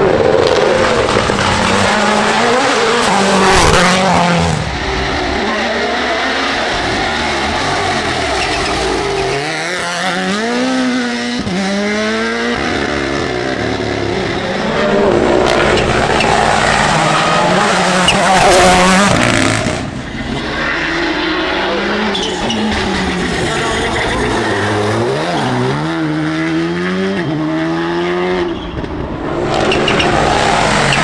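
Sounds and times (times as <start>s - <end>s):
rally car engine accelerating: 0.0s - 31.0s.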